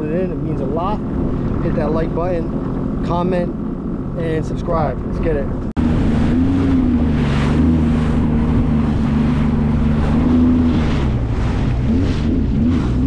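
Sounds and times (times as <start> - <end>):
watercraft engine running: 0.0 - 13.0
wind and water rushing: 0.0 - 13.0.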